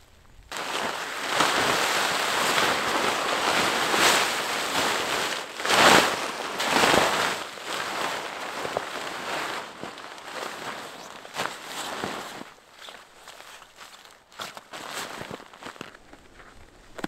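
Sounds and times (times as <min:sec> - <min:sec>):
tent fabric rustling and flapping: 0:00.5 - 0:17.0.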